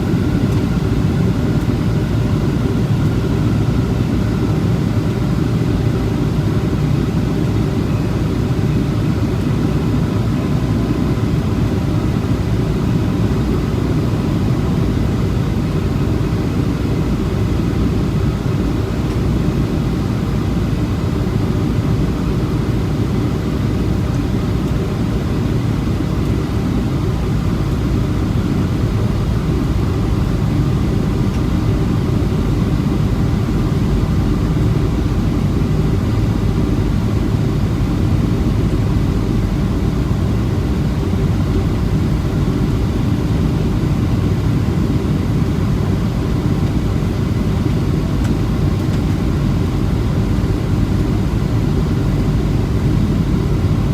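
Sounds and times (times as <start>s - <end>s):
airliner engines and airflow: 0.0s - 53.9s.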